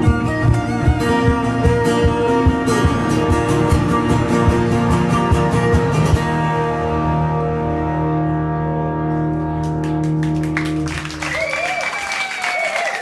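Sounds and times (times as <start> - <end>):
guitar playing: 0.0 - 11.7.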